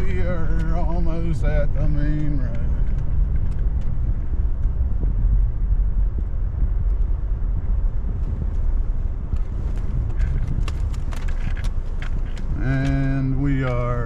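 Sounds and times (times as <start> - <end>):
pickup engine and tyres rumbling: 0.0 - 14.0.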